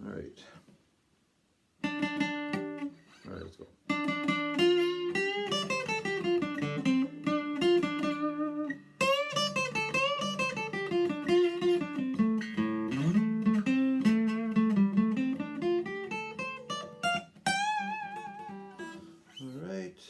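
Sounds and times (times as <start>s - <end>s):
acoustic guitar playing: 1.8s - 19.8s.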